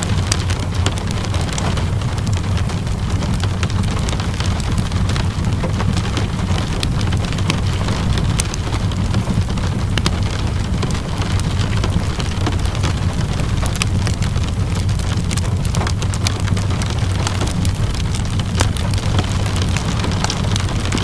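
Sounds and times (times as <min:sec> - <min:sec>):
low rumble: 0:00.0 - 0:21.0
steady rainfall: 0:00.0 - 0:21.0
wood fire crackling: 0:00.0 - 0:21.0.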